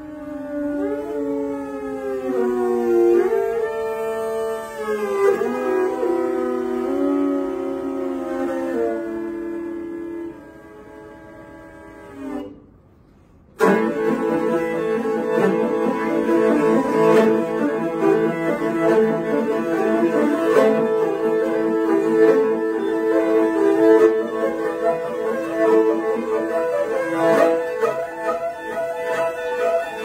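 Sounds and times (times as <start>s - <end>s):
bowed fiddles playing: 0.0s - 12.8s, 13.6s - 30.0s.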